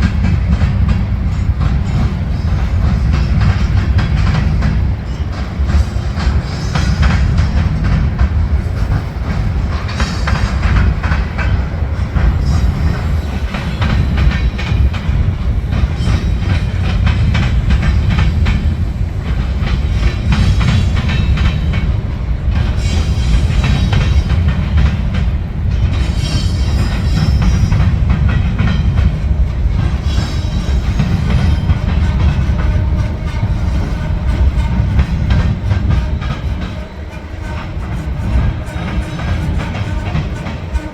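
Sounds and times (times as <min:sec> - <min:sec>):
train cars rumbling by: 0:00.0 - 0:40.9
train wheels clickety-clack: 0:00.0 - 0:40.9.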